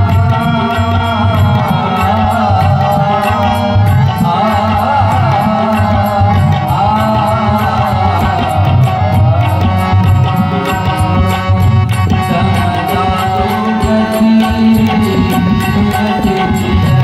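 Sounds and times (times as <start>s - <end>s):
devotional song with tabla: 0.0s - 17.0s.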